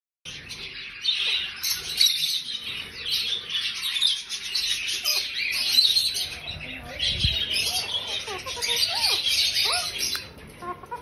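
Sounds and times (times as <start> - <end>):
birds chirping and chattering: 0.3 - 11.0.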